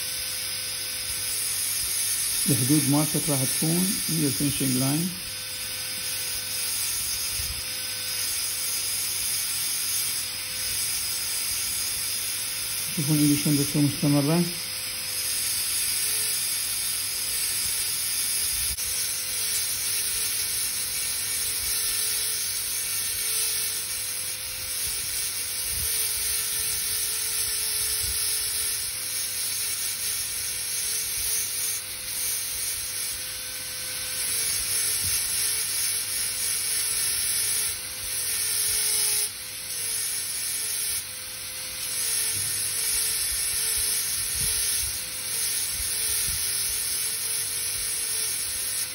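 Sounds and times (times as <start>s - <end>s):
dental drill hissing: 0.0s - 48.9s.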